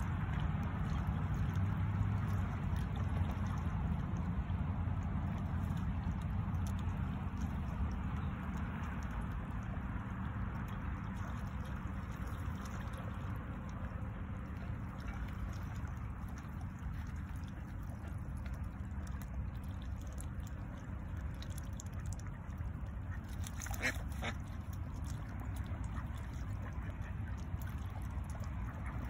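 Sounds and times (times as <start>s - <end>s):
ducks dabbling in water: 0.0s - 29.0s.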